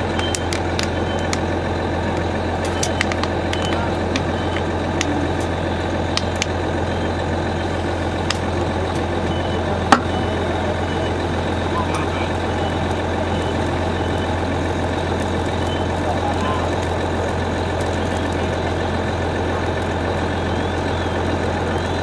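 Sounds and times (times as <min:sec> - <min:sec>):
diesel engine humming: 0:00.0 - 0:22.0
fire crackling and popping: 0:00.0 - 0:22.0.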